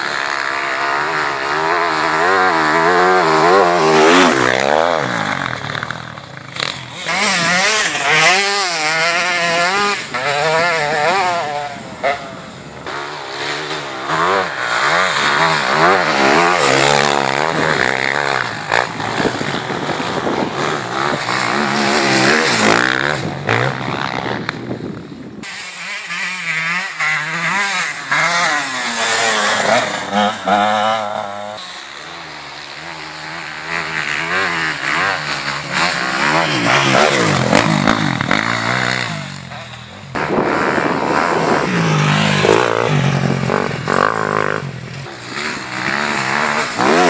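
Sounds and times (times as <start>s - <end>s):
dirt bike engines revving: 0.0s - 47.0s.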